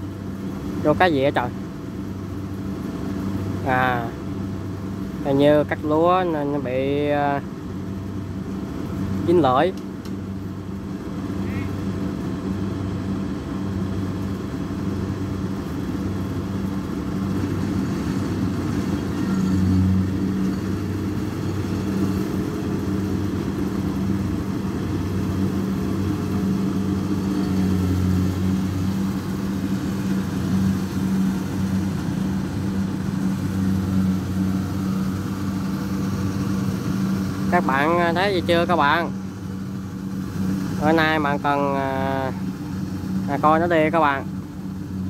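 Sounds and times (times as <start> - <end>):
combine harvester engine droning: 0.0 - 45.0.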